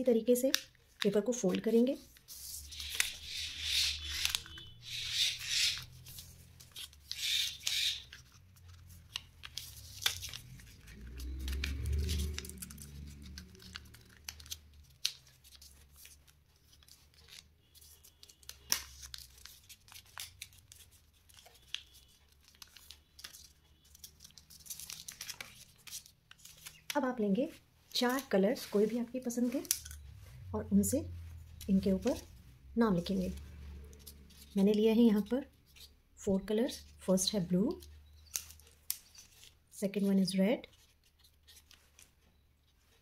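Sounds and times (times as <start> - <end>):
paper rustling and creasing: 0.5 - 30.5, 31.1 - 36.0, 37.7 - 40.0, 40.7 - 43.0.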